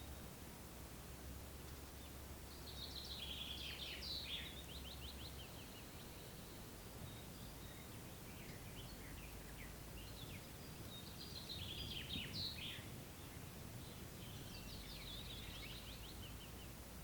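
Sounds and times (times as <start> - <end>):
faint low background noise: 0.0 - 17.0
songbirds singing: 1.5 - 17.0.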